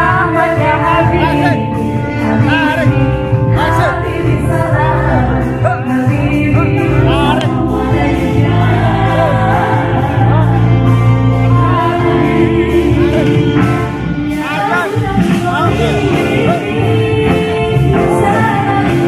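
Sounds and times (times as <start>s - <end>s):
person singing: 0.0s - 19.0s
pop band playing through pa: 0.0s - 19.0s.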